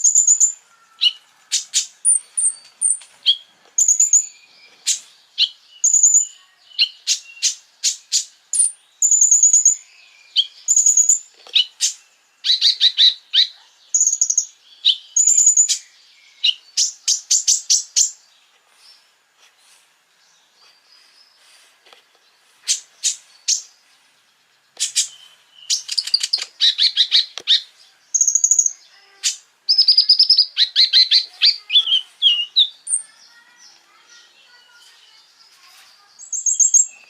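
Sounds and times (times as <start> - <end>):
songbird chirping and trilling: 0.0 - 37.0.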